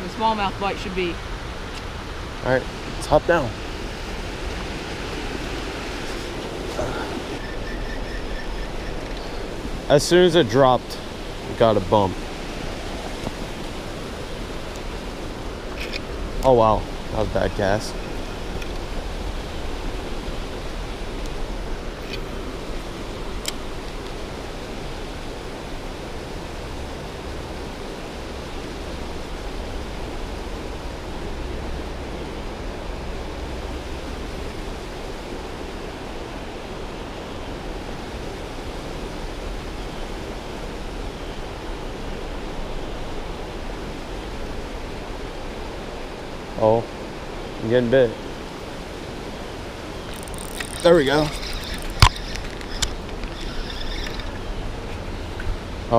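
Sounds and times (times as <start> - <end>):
creek water running over rocks: 0.0 - 7.4, 8.9 - 55.9.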